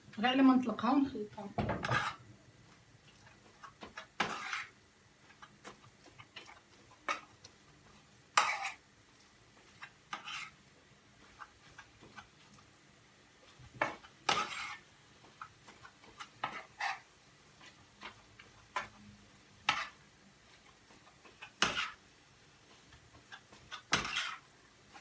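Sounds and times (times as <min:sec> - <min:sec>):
utensil scraping a frying pan: 0:01.7 - 0:02.3, 0:03.0 - 0:08.8, 0:09.5 - 0:12.7, 0:13.4 - 0:22.0, 0:22.6 - 0:25.0.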